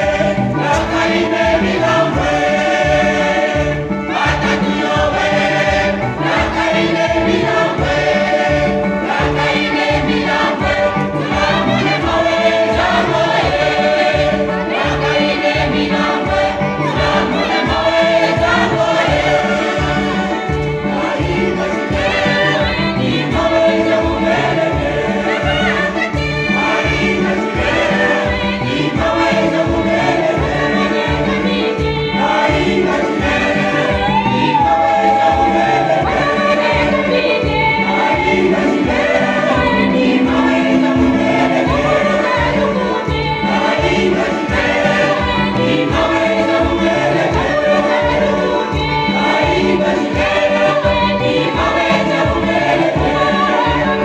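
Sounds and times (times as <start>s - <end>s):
choir singing gospel song: 0.0s - 54.0s.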